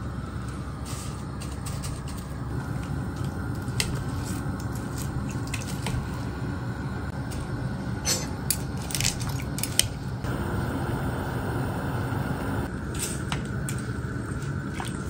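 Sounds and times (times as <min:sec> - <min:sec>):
water boiling in a pot: 0:02.5 - 0:15.0.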